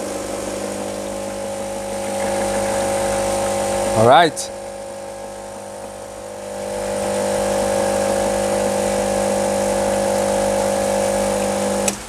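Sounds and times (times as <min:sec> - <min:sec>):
espresso machine pump humming: 0:00.0 - 0:12.0.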